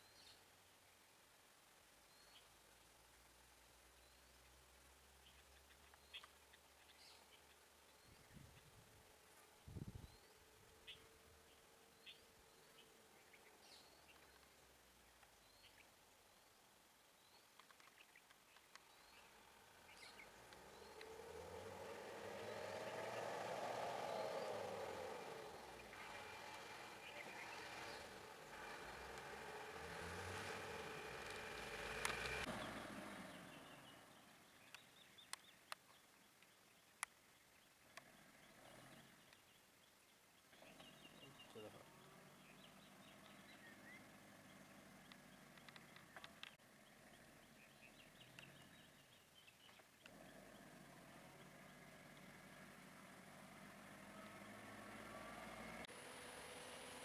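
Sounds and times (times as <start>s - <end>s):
low engine hum: 2.8s - 35.6s, 40.4s - 57.0s.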